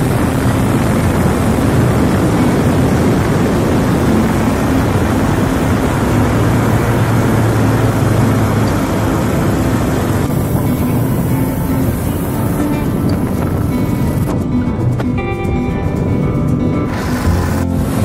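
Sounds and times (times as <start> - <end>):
rushing water: 0.0 - 14.4, 16.9 - 18.0
boat motor running: 0.0 - 18.0
wind: 0.0 - 18.0.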